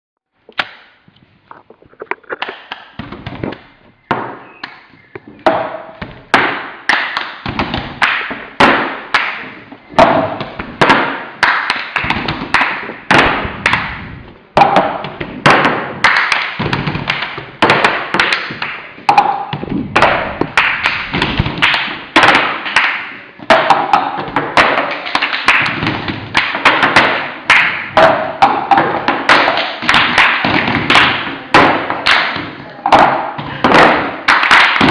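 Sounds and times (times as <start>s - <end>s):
hands clapping and tapping: 1.6s - 34.9s.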